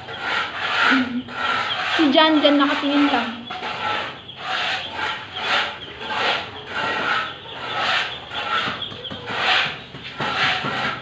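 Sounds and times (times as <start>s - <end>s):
hand tool scraping: 0.0s - 11.0s.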